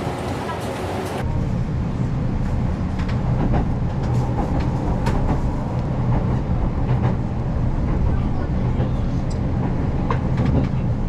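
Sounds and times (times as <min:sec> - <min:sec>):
electric train rumble and hum: 0:00.0 - 0:11.0.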